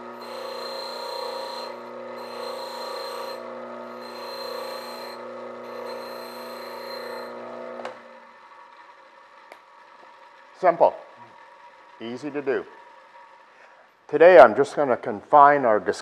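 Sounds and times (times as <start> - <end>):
bench grinder grinding steel: 0.0 - 13.9.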